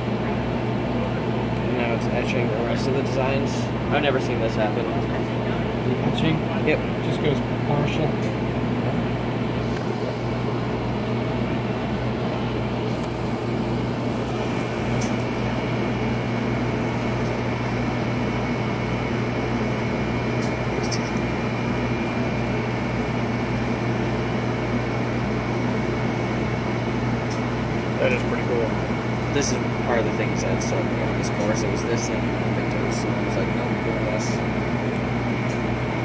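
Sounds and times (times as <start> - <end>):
laser cutter humming: 0.0 - 36.0.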